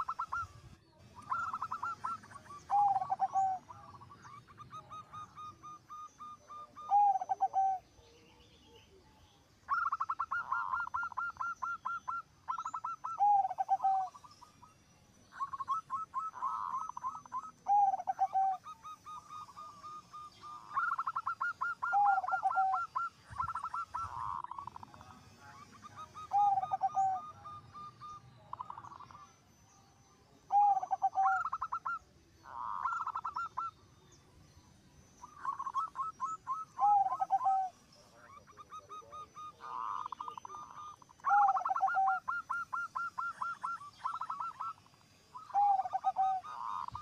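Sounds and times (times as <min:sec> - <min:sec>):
doves cooing: 0:00.0 - 0:29.4, 0:30.2 - 0:33.8, 0:35.2 - 0:47.0.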